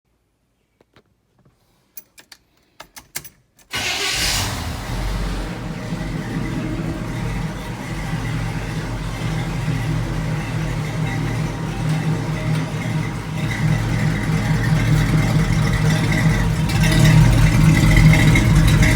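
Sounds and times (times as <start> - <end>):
truck engine rumbling: 3.7 - 18.9.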